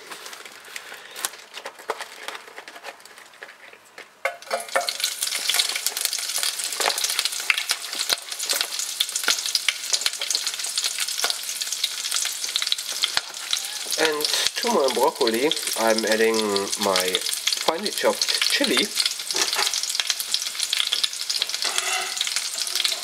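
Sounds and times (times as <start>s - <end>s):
vegetables sizzling in oil: 4.4s - 23.0s.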